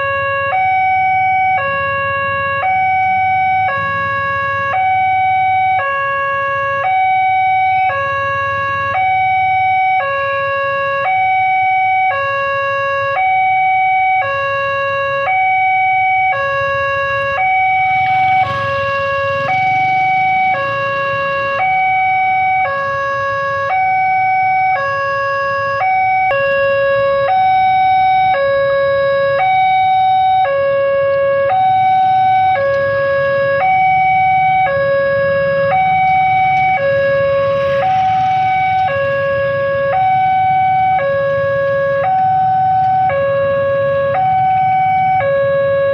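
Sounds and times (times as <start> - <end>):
level crossing two-tone alarm: 0.0 - 45.9.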